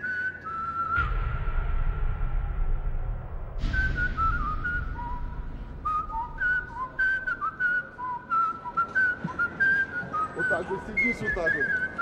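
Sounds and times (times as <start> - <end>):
person whistling a tune: 0.0 - 1.4, 3.6 - 12.0.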